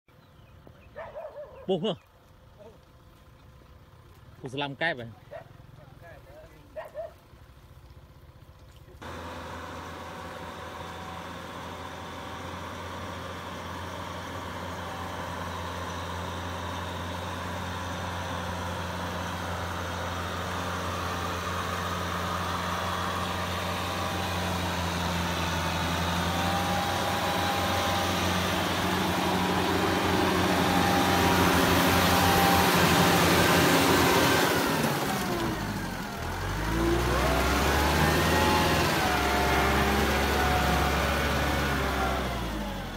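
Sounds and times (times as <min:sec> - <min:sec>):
tractor diesel engine running: 0:00.1 - 0:42.9.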